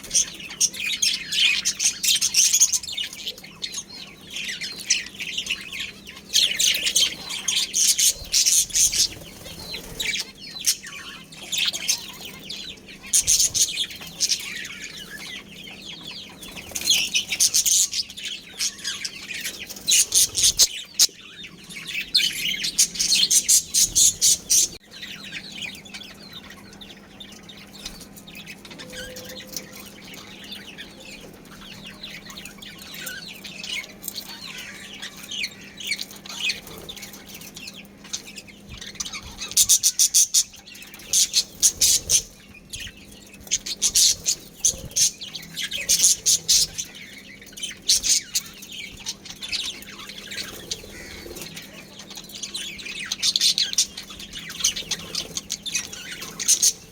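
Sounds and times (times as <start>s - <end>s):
budgies chattering and chirping: 0.0s - 56.9s.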